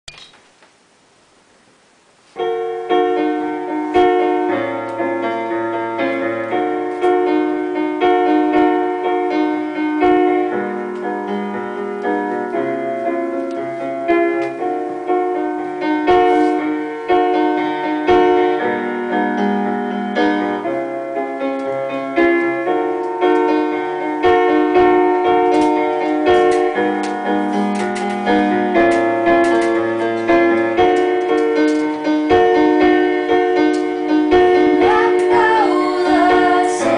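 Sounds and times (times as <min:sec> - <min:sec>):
gentle piano chords and melody: 0:00.1 - 0:36.9.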